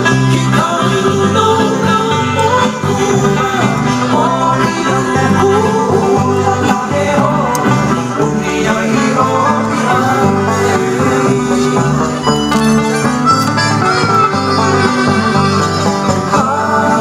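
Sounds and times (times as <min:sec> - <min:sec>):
hula music on plucked strings: 0:00.0 - 0:17.0.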